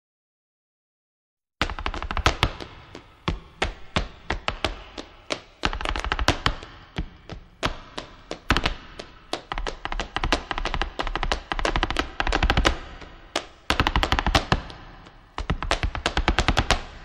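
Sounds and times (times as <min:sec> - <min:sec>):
sharp taps and knocks: 0:01.6 - 0:17.0.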